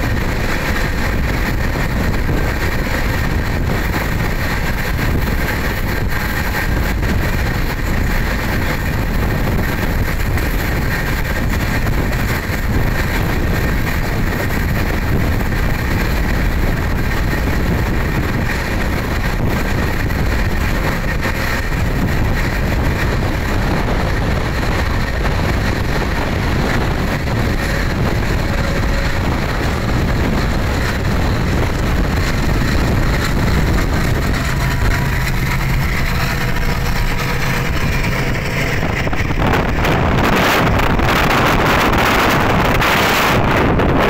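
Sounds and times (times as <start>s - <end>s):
trains rumbling and clattering: 0.0s - 44.0s
wind noise on microphone: 0.0s - 44.0s.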